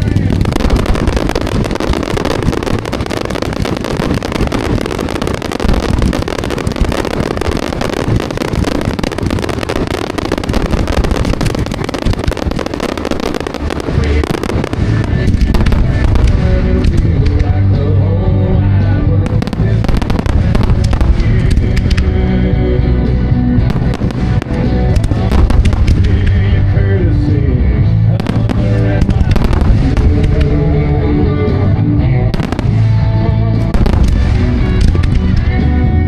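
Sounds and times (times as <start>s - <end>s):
fireworks crackling and popping: 0.0s - 31.6s, 32.3s - 35.8s
background music: 0.0s - 36.0s.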